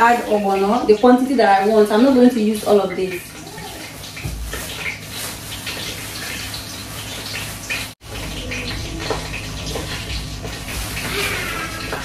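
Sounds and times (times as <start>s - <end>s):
plastic bag crackling: 1.6s - 12.0s.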